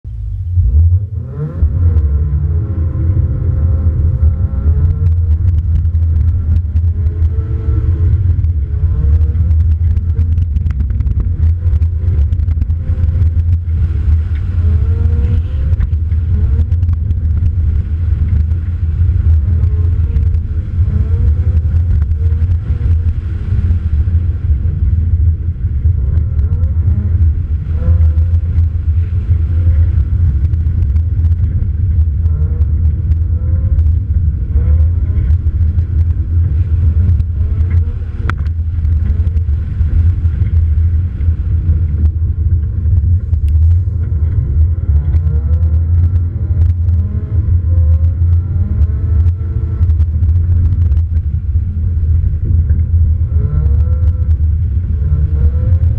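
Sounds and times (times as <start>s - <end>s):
road and wind rumble: 0.0s - 55.9s
gravel ticking against car: 0.1s - 55.9s
rally car engine revving: 0.1s - 55.9s.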